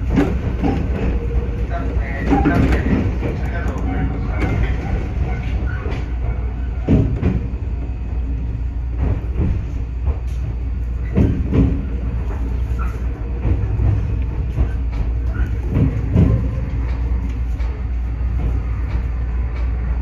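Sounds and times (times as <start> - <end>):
wheels clacking over rail joints: 0.0 - 7.8, 8.9 - 20.0
electric train rumbling: 0.0 - 20.0.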